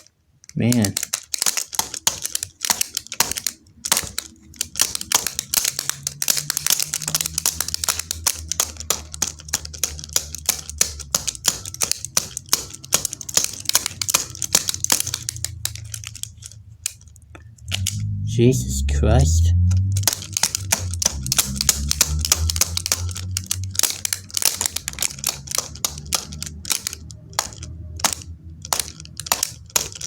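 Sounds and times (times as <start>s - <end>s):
small hard parts clattering: 0.0s - 18.1s, 19.6s - 30.0s
low hum: 3.5s - 30.0s.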